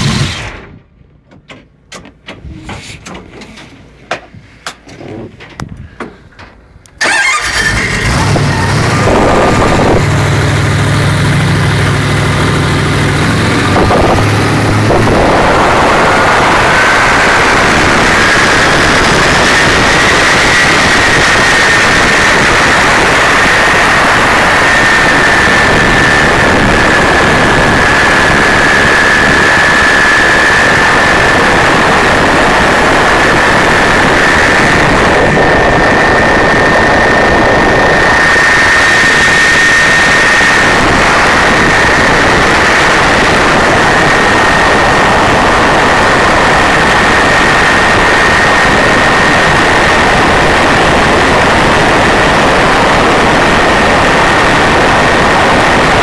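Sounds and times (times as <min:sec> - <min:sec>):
boat engine running: 0:07.0 - 0:56.0.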